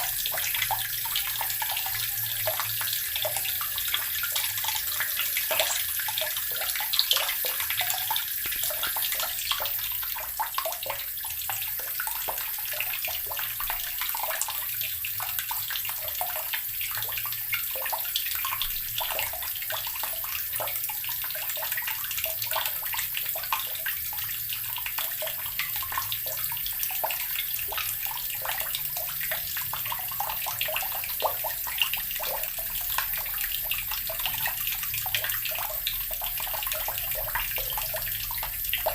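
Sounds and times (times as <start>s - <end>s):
tap water pouring into barrel: 0.0s - 38.9s.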